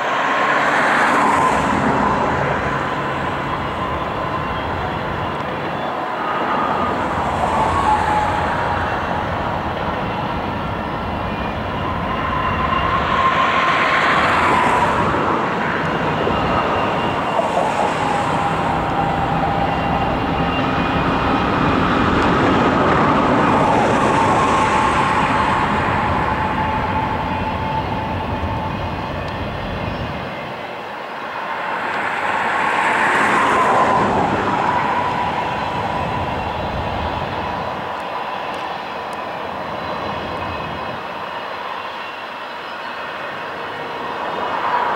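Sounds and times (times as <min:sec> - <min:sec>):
freight train wheels rumbling on rail: 0:00.0 - 0:44.9
high wheel squeal: 0:00.0 - 0:44.9.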